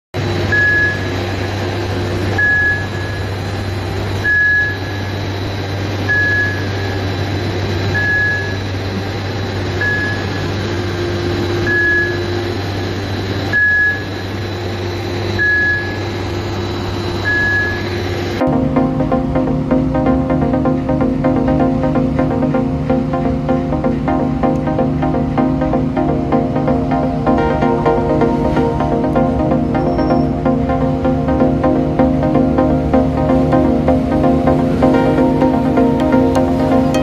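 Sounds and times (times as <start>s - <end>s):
crane machinery humming: 0.2s - 37.0s
warning beeper beeping: 0.4s - 1.2s, 2.4s - 3.6s, 4.2s - 5.4s, 6.1s - 7.0s, 7.9s - 8.8s, 9.7s - 37.0s.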